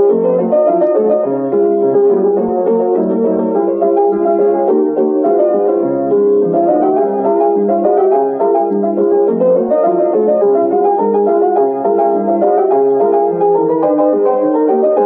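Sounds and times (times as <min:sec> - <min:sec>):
fast piano music: 0:00.0 - 0:15.0.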